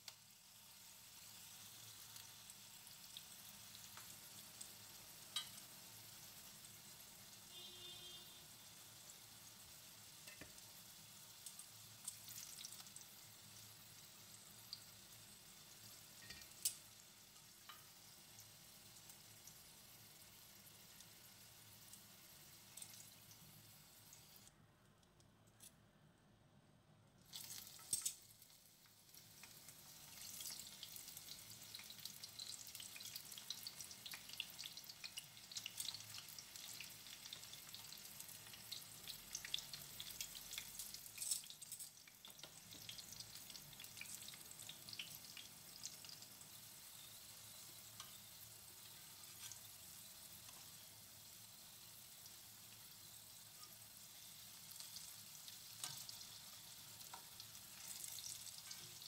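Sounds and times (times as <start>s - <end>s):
pumpkin slices sizzling in oil: 0.0s - 24.5s, 27.2s - 59.0s.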